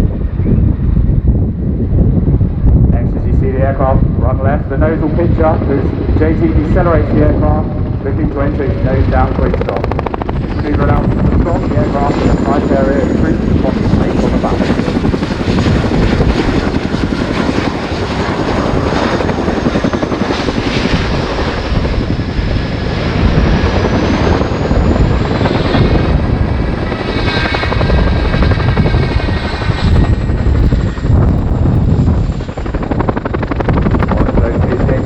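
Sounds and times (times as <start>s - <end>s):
helicopter turbine whine: 0.0s - 35.0s.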